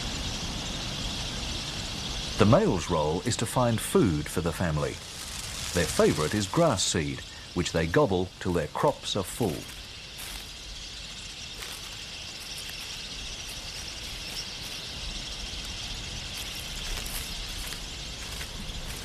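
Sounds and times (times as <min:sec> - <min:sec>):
faint bird chirps: 0:00.0 - 0:19.0
insect drone: 0:00.0 - 0:19.0.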